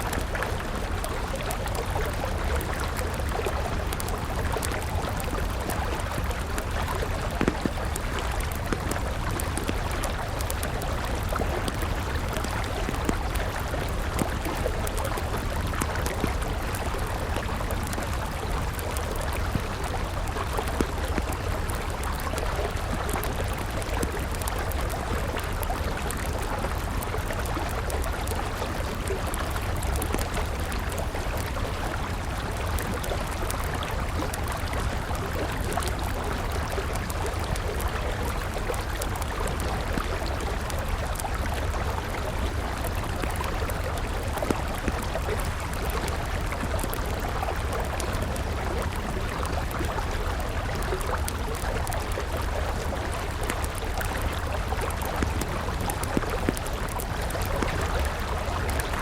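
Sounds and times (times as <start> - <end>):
campfire crackling: 0.0 - 59.0
river flowing: 0.0 - 59.0.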